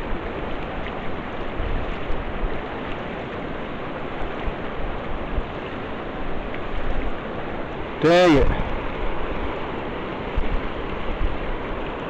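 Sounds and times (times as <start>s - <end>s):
river water rushing: 0.1s - 12.0s.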